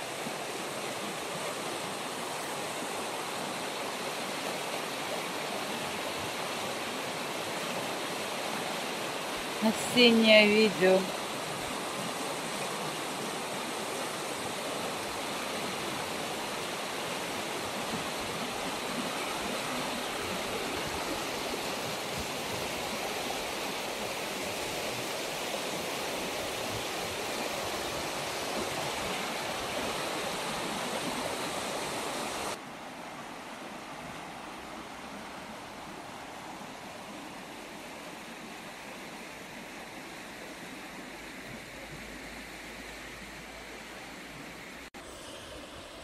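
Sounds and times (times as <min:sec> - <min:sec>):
river rushing over stones: 0:00.0 - 0:46.0.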